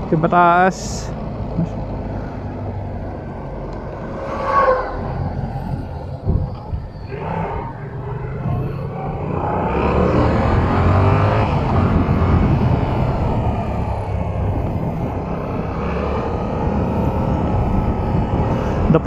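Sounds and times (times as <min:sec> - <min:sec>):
motorcycle engine accelerating: 0:01.3 - 0:19.0
rush of wind noise: 0:02.0 - 0:19.0.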